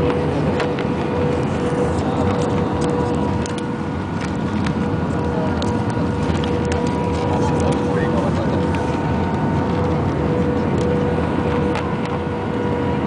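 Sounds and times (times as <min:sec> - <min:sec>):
aircraft cabin engine rumble: 0:00.0 - 0:13.0
constant hum: 0:00.0 - 0:13.0.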